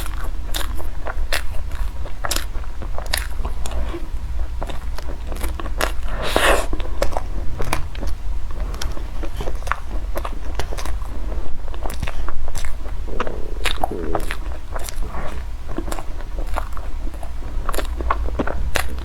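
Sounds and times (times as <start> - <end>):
crunchy chewing: 0.0 - 19.0
steady low hum: 0.0 - 19.0.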